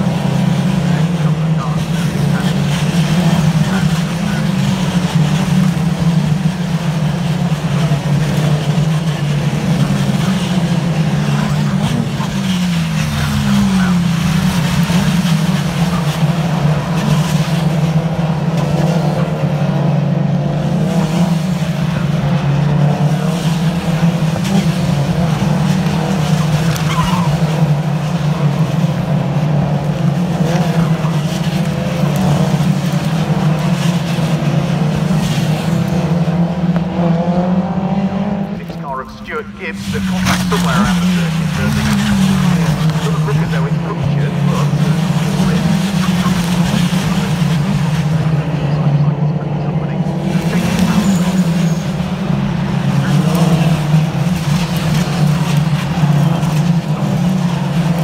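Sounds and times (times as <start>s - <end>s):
continuous low drone: 0.0s - 58.0s
race car engines revving: 0.0s - 58.0s.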